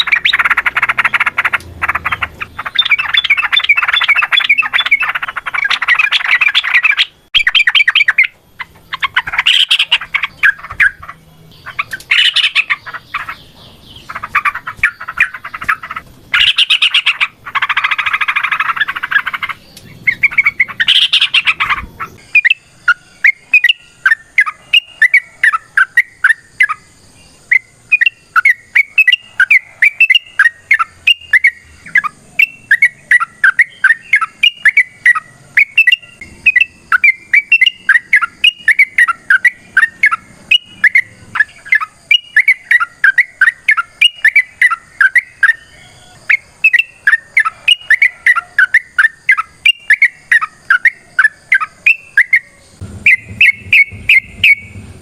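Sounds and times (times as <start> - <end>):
bird chirping sharp notes: 0.0 - 55.0.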